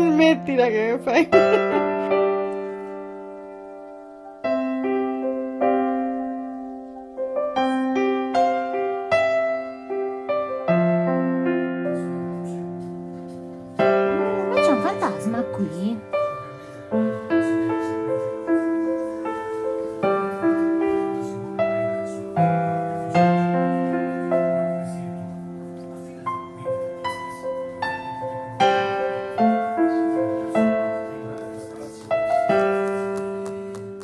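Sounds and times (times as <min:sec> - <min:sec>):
slow piano melody: 0:00.0 - 0:34.0.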